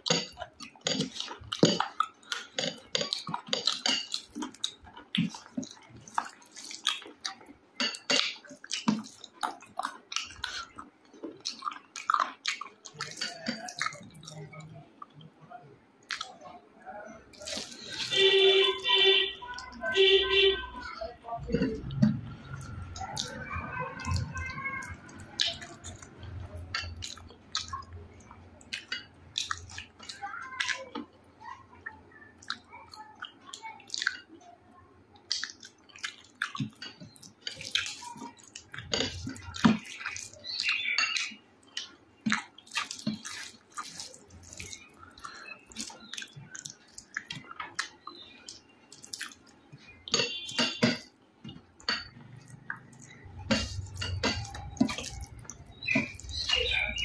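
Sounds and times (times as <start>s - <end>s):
person chewing food: 0.0s - 15.3s, 16.0s - 16.5s, 17.2s - 31.4s, 32.3s - 34.4s, 35.2s - 57.0s.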